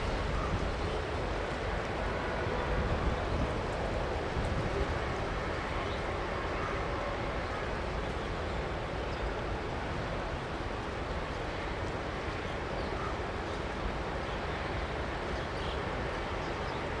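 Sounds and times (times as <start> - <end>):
jet airliner engines rumbling: 0.0 - 17.0.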